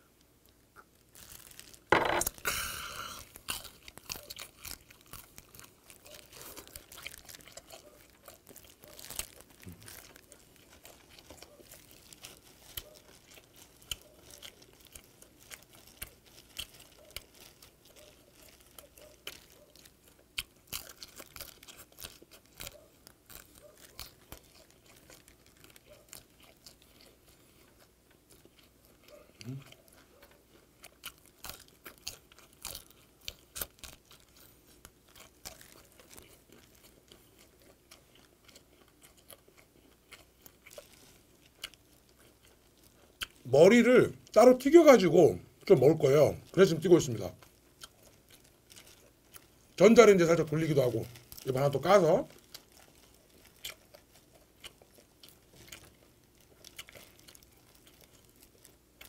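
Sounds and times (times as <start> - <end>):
crunchy chewing: 0.1 - 59.0.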